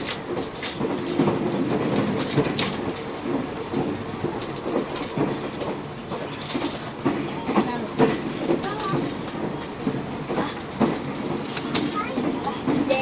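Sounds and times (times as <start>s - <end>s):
rail joint clacks: 0.0s - 13.0s
train wheels rumbling on rail: 0.0s - 13.0s.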